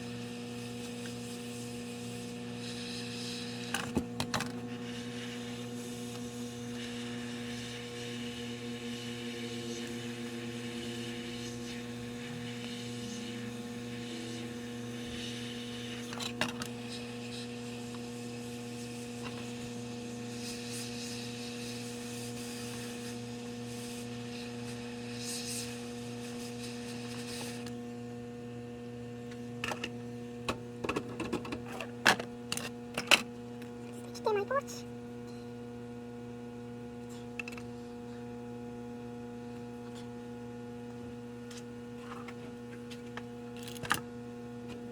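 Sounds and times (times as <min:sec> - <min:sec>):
electrical mains hum: 0:00.0 - 0:44.9.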